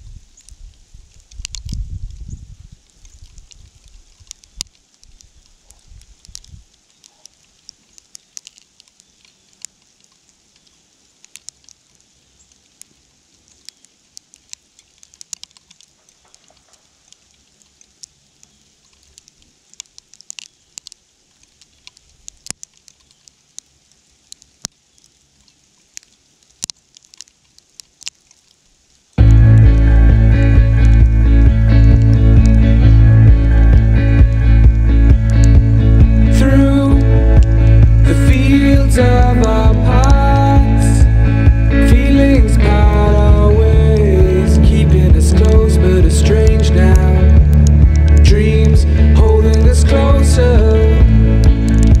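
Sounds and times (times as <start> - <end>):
light high hiss: 0.0 - 52.0
precipitation ticking on surfaces: 0.3 - 52.0.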